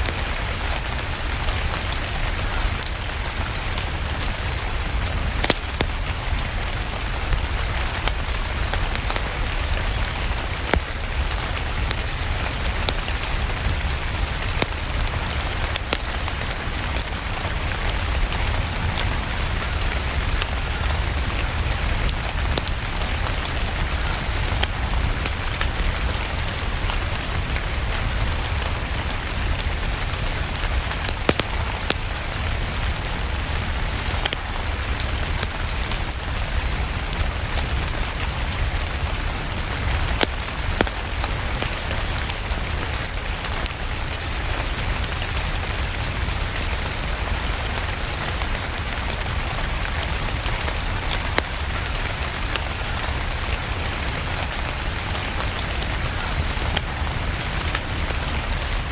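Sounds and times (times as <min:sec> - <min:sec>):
steady rain: 0:00.0 - 0:58.9
wood fire crackling: 0:00.0 - 0:58.9.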